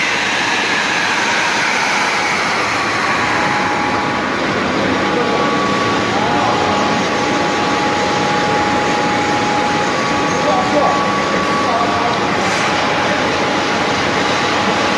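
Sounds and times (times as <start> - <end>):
high whining tones: 0.0 - 14.9
industrial machinery hum: 0.0 - 14.9.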